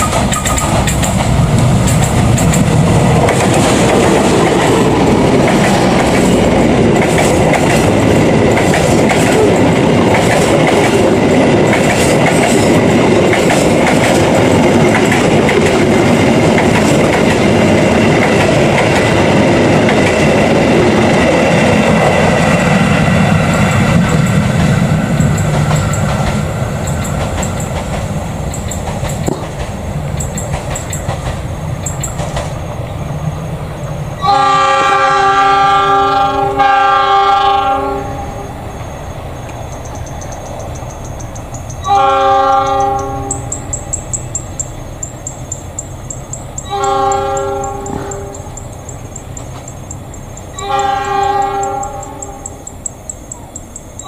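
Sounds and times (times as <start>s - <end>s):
train wheels clattering over rail joints: 0.0s - 32.7s, 39.8s - 53.7s.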